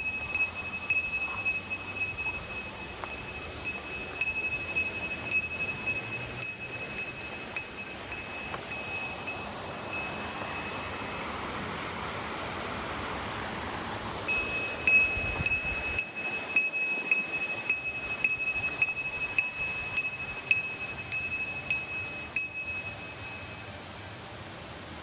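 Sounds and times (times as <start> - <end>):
small bell ringing rhythmically: 0.0 - 11.2, 14.3 - 25.0.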